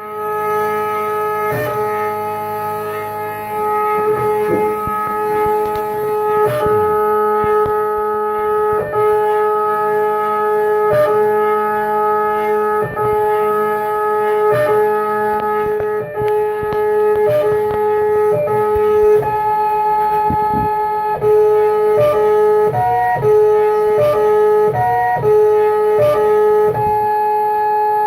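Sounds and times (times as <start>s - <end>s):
stepper motors whining: 0.0s - 28.0s.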